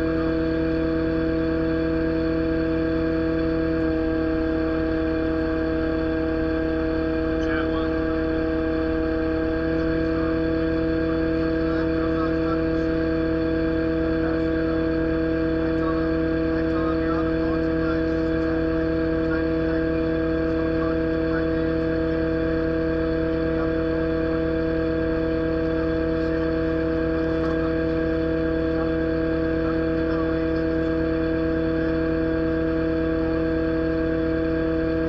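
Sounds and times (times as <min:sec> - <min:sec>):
excavator engine drone: 0:00.0 - 0:35.0
hydraulic pump whine: 0:00.0 - 0:35.0.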